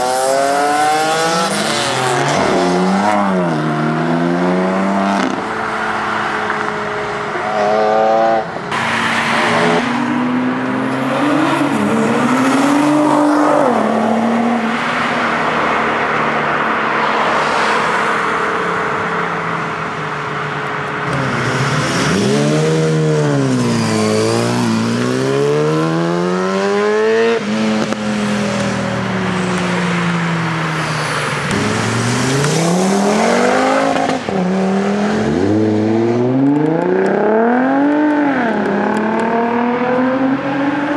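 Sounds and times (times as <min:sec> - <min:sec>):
sports car engines accelerating: 0:00.0 - 0:40.9.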